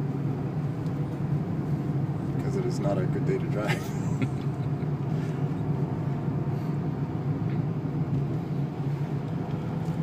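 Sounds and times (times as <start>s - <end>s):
car engine and road drone: 0.0s - 10.0s.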